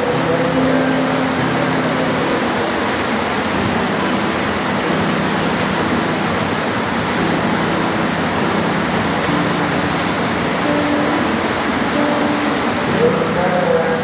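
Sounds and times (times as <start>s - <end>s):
dense rain falling: 0.0s - 14.0s.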